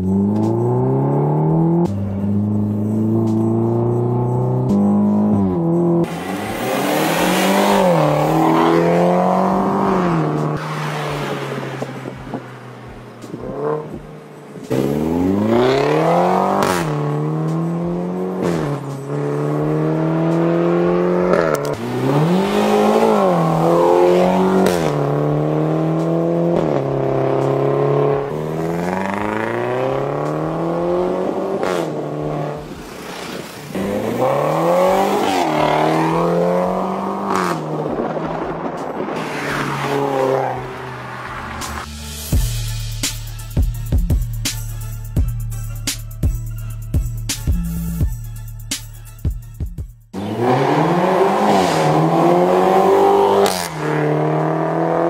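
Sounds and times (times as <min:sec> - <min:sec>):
car engine accelerating hard: 0:00.0 - 0:42.0, 0:50.2 - 0:55.0.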